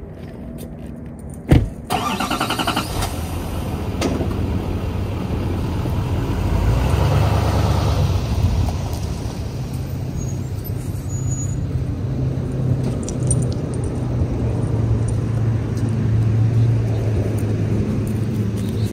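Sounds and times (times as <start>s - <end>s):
pickup truck engine humming: 1.7s - 18.8s.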